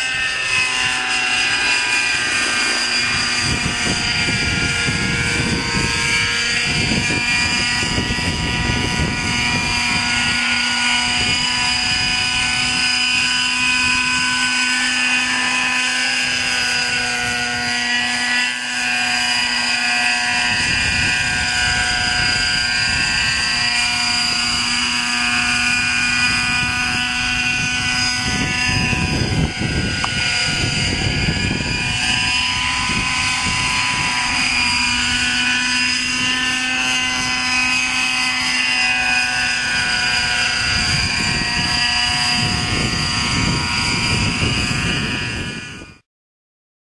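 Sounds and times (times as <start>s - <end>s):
wind buffeting microphone: 0.0s - 46.0s
model helicopter engine whine: 0.0s - 46.1s.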